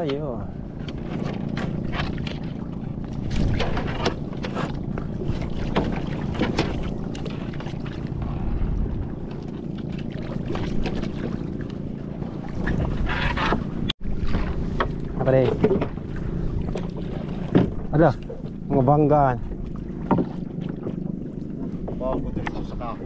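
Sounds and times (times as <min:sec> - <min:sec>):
boat engine rumble: 0:00.0 - 0:23.0
water slapping against hull: 0:00.0 - 0:23.0
wind buffeting microphone: 0:00.0 - 0:23.0.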